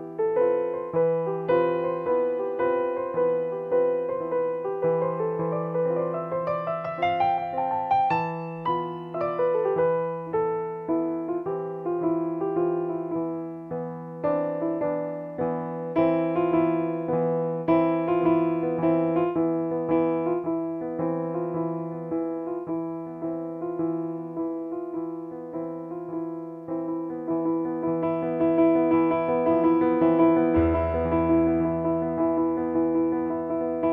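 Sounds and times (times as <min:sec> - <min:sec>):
digital piano improvisation: 0:00.0 - 0:33.9.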